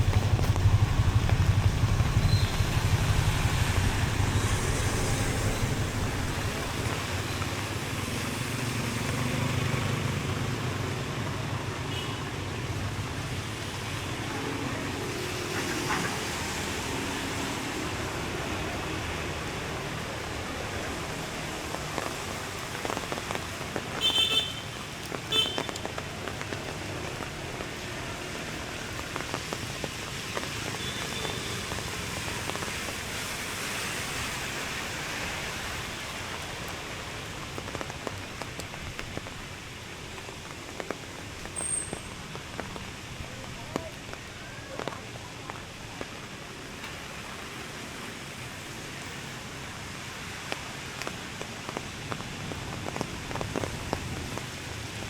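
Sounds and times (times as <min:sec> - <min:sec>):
rain hiss: 0:00.0 - 0:55.0
traffic: 0:00.0 - 0:55.0
vehicle passing in rain: 0:00.0 - 0:55.0.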